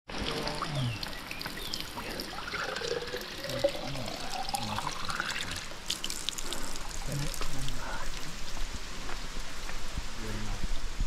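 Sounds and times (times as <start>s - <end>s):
stream water trickling: 0.1s - 11.0s.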